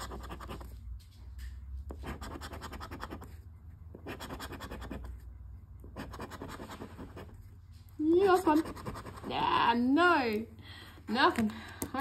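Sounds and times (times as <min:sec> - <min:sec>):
scratching lottery ticket: 0:00.0 - 0:10.4.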